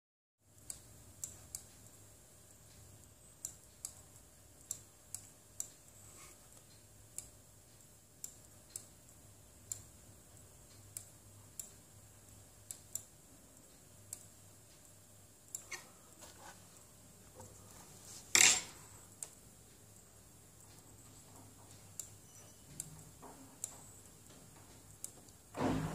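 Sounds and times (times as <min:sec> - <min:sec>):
low computer hum: 0:00.4 - 0:25.9.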